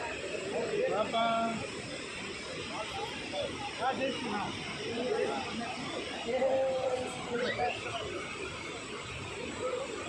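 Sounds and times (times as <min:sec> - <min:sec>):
crowd chatter: 0:00.0 - 0:10.0
steady rushing background noise: 0:00.0 - 0:10.0.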